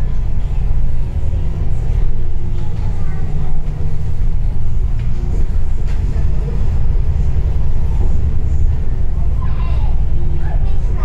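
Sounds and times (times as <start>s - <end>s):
bus rumbling in motion: 0.0s - 11.0s
faint voices: 0.0s - 11.0s.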